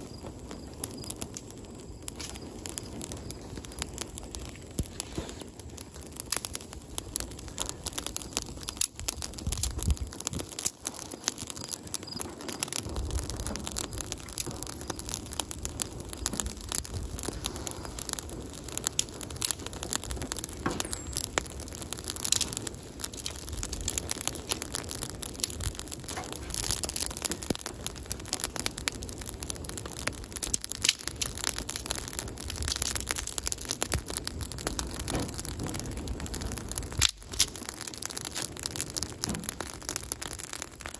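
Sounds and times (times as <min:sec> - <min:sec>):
twig fire crackling: 0:00.0 - 0:40.9.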